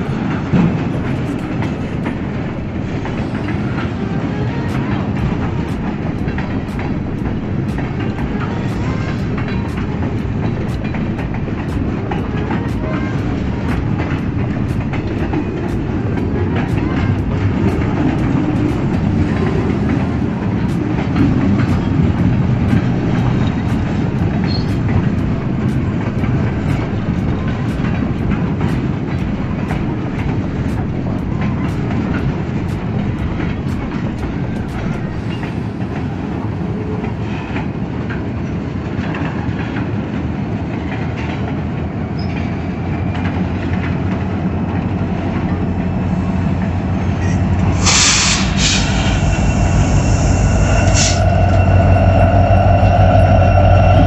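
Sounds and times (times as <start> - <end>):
wheels clicking over rail joints: 0.0 - 49.3
diesel locomotive drone: 0.0 - 54.0
freight train rumbling past: 0.0 - 54.0.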